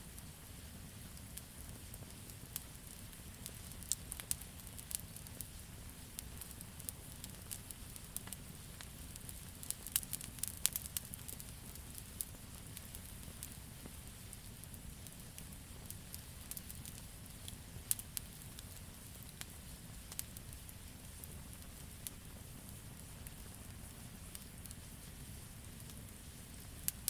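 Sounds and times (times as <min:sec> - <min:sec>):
campfire crackling and popping: 0:00.1 - 0:27.0.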